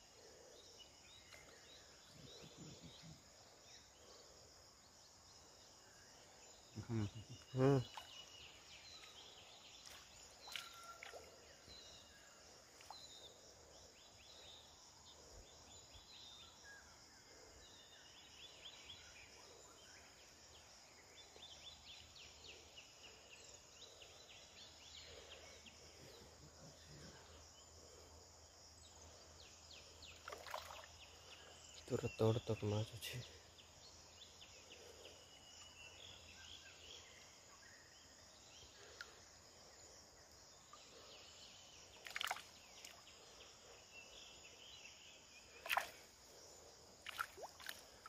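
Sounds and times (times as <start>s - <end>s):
high insect drone: 0.0s - 48.0s.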